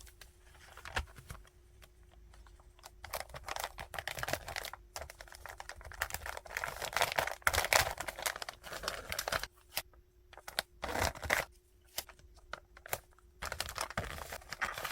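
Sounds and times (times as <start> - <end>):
plastic wrap and paper crinkling: 2.4 - 9.8, 10.4 - 14.9.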